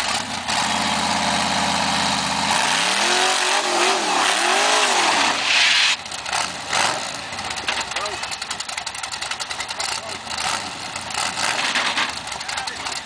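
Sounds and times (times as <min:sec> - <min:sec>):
buggy engine revving under load: 0:00.0 - 0:13.0.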